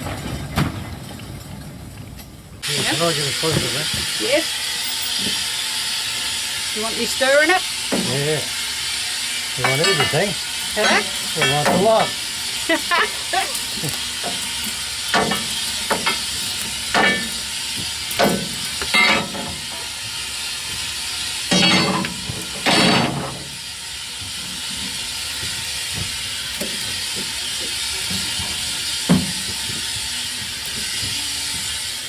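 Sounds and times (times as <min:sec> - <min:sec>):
boiler steam hiss: 0:00.0 - 0:32.0
fire iron scraping and clanking: 0:00.0 - 0:32.0.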